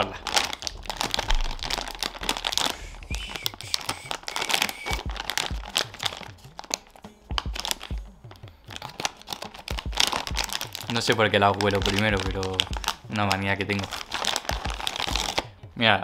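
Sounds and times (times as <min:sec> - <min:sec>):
plastic snack bag crinkling: 0:00.0 - 0:15.5.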